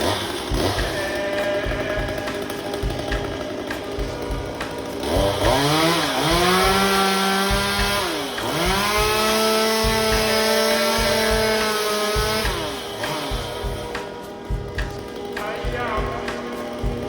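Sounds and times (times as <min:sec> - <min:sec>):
background music beat: 0:00.0 - 0:17.0
chainsaw revving: 0:00.0 - 0:17.0.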